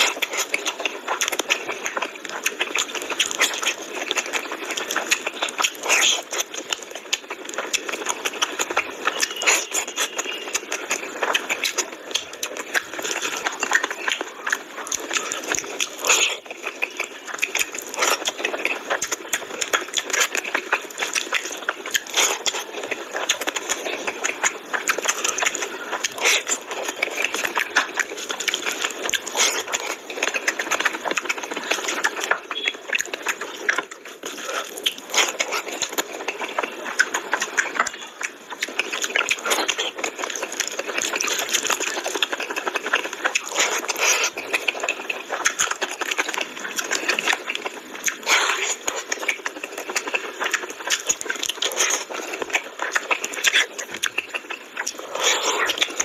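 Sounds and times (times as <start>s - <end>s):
fingers squelching through gravy: 0.0s - 56.0s
wet chewing and lip-smacking: 0.0s - 56.0s.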